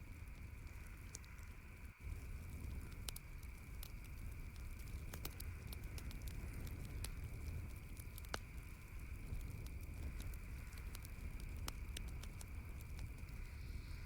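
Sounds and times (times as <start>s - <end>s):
campfire pops and crackles: 0.0s - 14.0s
low fire rumble: 0.0s - 14.0s.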